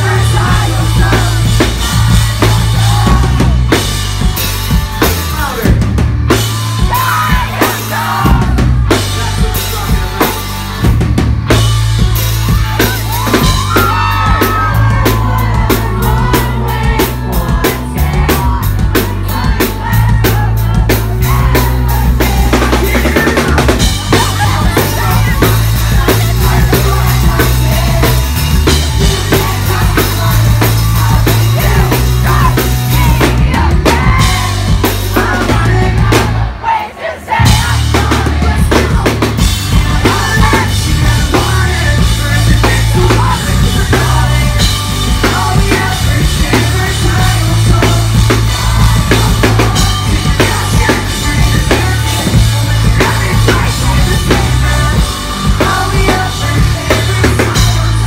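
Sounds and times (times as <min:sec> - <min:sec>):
drum kit: 0:00.0 - 0:58.0
pop-punk band playing live: 0:00.0 - 0:58.0.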